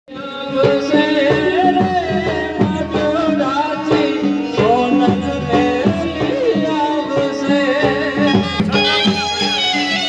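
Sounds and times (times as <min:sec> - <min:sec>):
harmonium melody: 0:00.1 - 0:10.0
tabla drum beat: 0:00.1 - 0:10.0.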